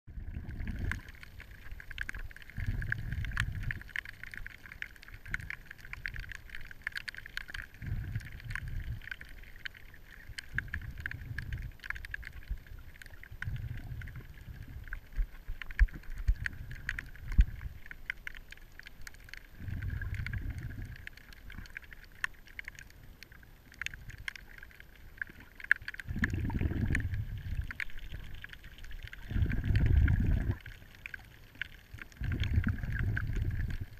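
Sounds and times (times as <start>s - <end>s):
underwater rushing water surges: 0.1s - 33.9s
sharp clicks and crackles: 0.3s - 33.9s.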